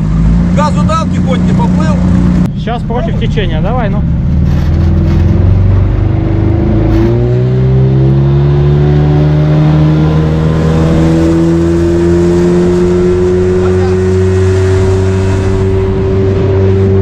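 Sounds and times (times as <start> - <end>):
outboard motor at full throttle: 0.0 - 17.0.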